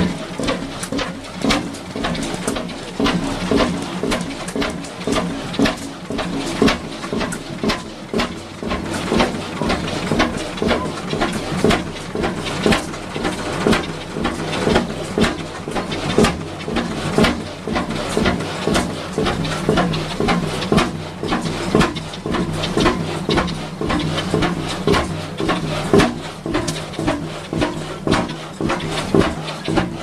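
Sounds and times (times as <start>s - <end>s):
stationary engine running: 0.0s - 30.0s.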